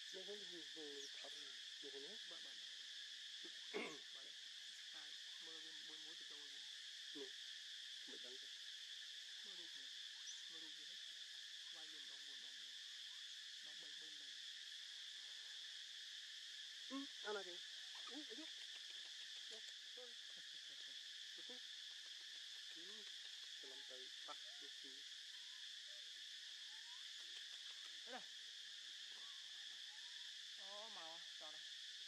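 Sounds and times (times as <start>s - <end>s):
insect chorus buzzing: 0.0s - 32.0s.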